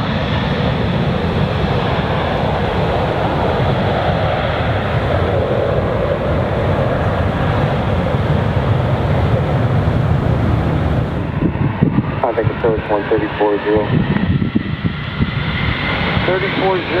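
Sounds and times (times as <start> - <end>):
jet airliner engine rush: 0.0 - 17.0.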